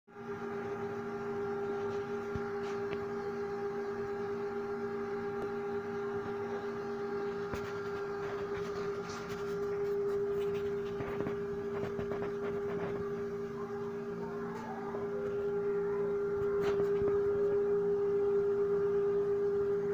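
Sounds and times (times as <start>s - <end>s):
incubator fan hum: 0.1s - 19.9s.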